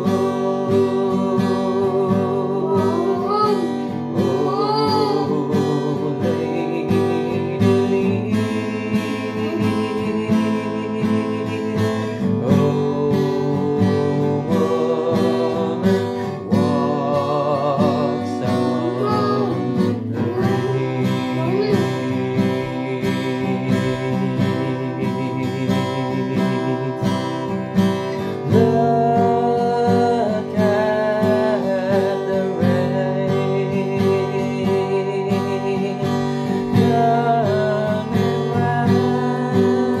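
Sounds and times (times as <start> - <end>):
acoustic guitar strumming: 0.0 - 40.0
man singing: 0.0 - 40.0.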